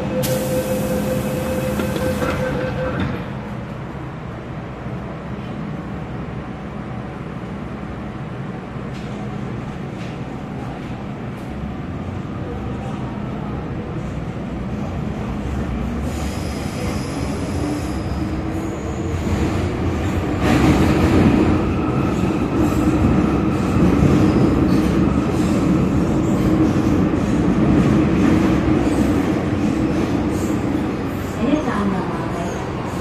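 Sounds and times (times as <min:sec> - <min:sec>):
train wheels rumbling on rails: 0:00.0 - 0:05.9, 0:06.5 - 0:33.0.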